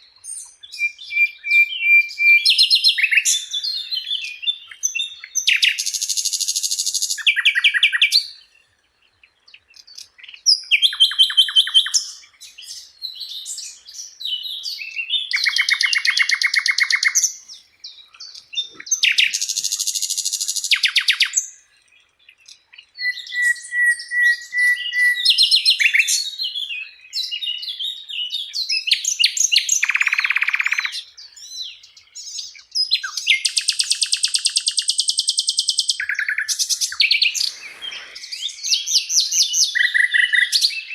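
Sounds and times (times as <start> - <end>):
bird singing trills and chirps: 0.0 - 40.9.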